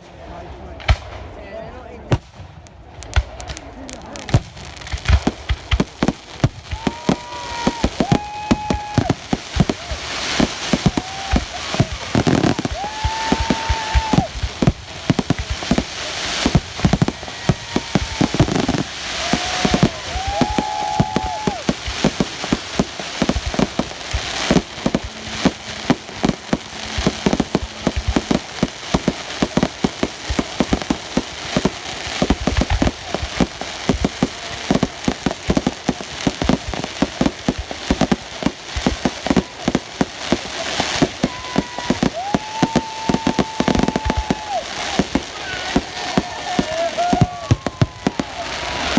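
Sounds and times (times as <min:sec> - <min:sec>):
firecrackers crackling bangs: 0:00.7 - 0:01.4, 0:02.0 - 0:48.9.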